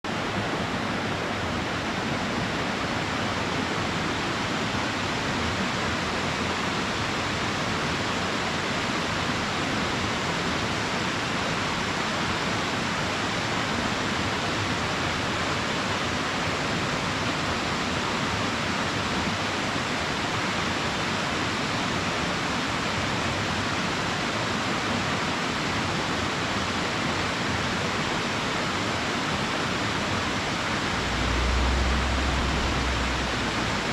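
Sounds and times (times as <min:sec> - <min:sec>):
small waterfall pouring into pool: 0:00.1 - 0:33.9.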